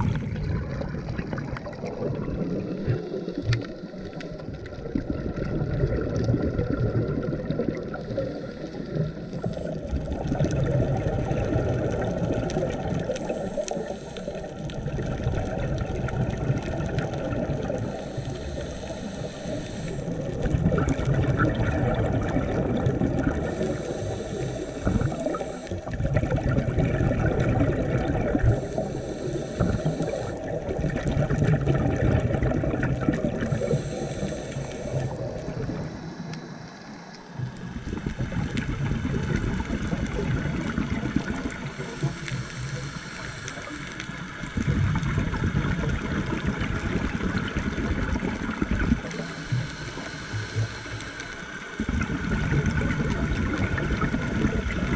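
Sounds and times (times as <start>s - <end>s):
underwater bubbles gurgling: 0.0s - 54.9s
regulator hiss on inhale: 0.1s - 6.2s, 7.6s - 26.0s, 27.3s - 53.6s.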